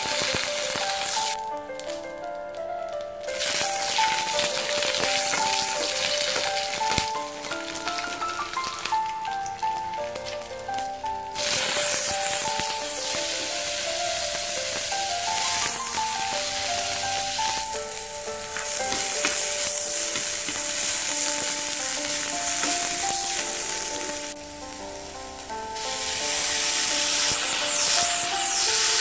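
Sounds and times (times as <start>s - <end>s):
onion sizzling in hot oil: 0.0s - 2.0s, 3.2s - 29.0s.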